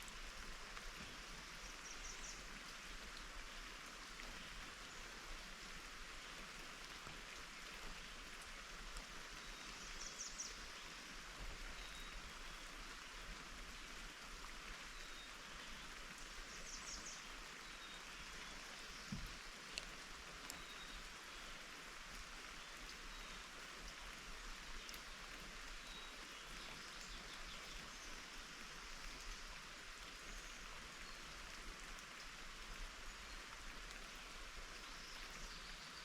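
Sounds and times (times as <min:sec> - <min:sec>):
steady rain: 0:00.0 - 0:36.0.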